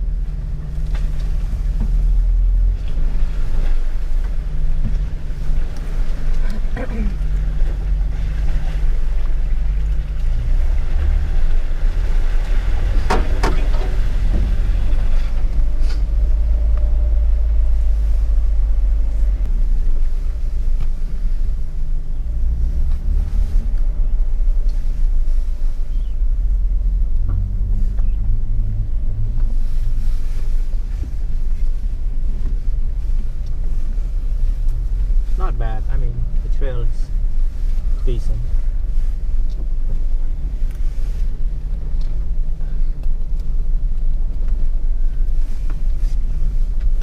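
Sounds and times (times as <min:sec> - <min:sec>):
car engine running low: 0:00.0 - 0:47.0.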